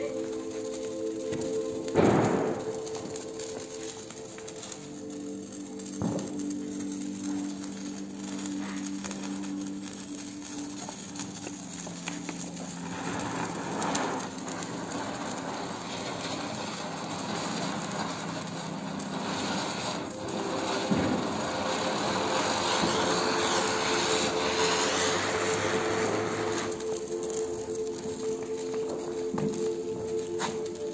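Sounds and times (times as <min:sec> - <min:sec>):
ground firework hissing: 0:00.0 - 0:30.9.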